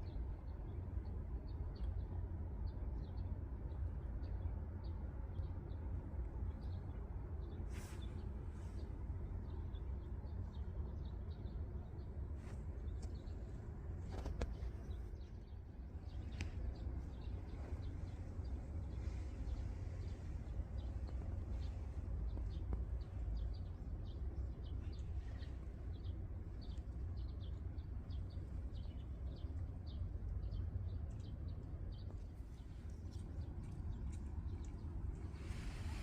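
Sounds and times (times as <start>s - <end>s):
small birds chirping: 0.0s - 36.0s
steady low rumble: 0.0s - 36.0s.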